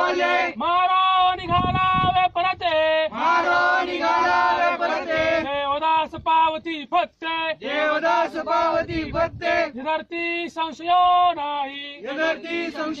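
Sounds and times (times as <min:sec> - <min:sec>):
man singing chant-like song: 0:00.0 - 0:13.0.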